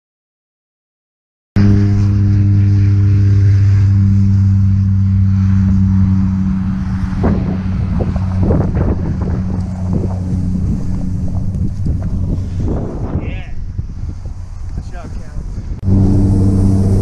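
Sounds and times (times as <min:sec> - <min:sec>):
low droning hum: 0:01.6 - 0:17.0
wind buffeting microphone: 0:01.6 - 0:17.0.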